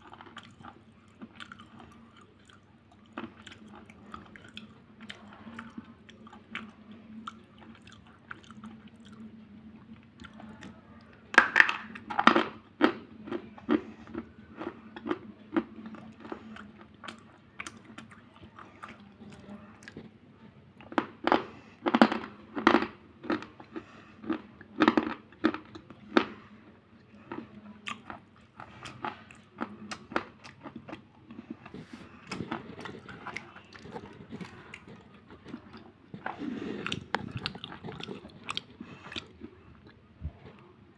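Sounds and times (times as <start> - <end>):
crunchy chewing: 0.0 - 9.3, 12.0 - 20.2, 20.8 - 40.7.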